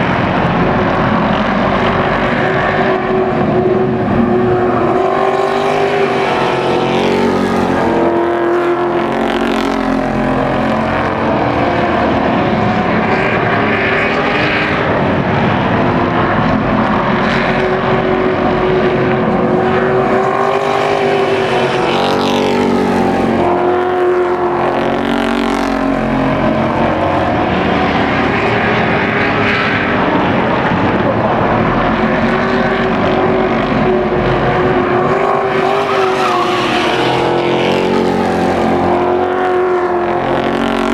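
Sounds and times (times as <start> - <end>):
race truck engines passing: 0.0 - 40.9.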